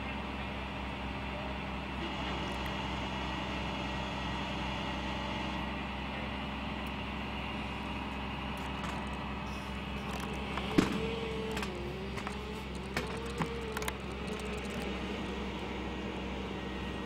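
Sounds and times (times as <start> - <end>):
truck engine humming: 0.0 - 17.0.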